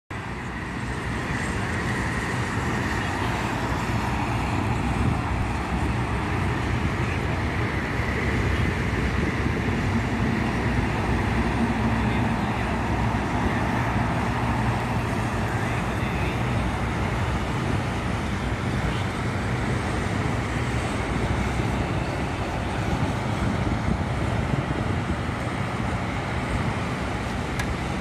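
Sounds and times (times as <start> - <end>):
highway traffic noise: 0.1 - 28.0.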